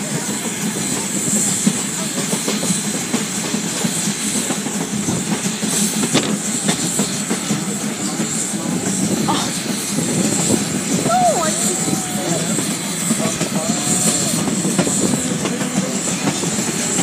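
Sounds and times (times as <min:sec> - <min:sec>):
steam hissing: 0:00.0 - 0:17.0
train wheels rumbling on rails: 0:00.0 - 0:17.0.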